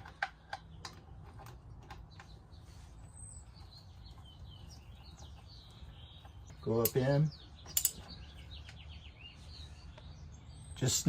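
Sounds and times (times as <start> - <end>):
high bird chirps: 2.1 - 11.0.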